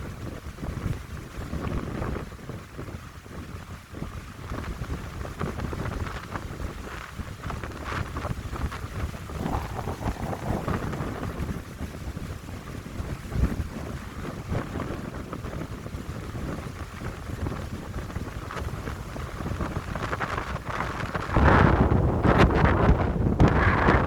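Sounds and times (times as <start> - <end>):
wind buffeting the microphone: 0.0 - 24.0
wind gusting through pines: 4.4 - 24.0.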